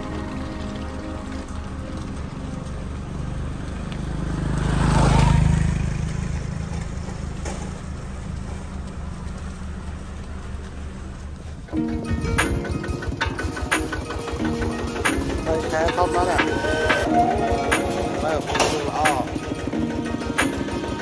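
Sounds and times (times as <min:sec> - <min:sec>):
low engine hum: 0:00.0 - 0:21.0
motor vehicle passing by: 0:00.0 - 0:21.0.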